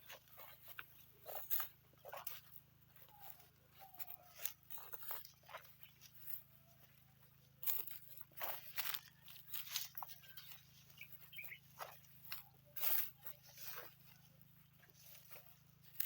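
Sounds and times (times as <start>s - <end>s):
crunching and rustling of grass: 0.0s - 16.0s.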